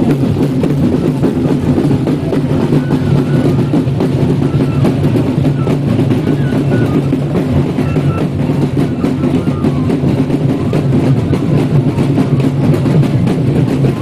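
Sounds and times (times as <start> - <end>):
frame drums beaten with sticks: 0.0 - 14.0.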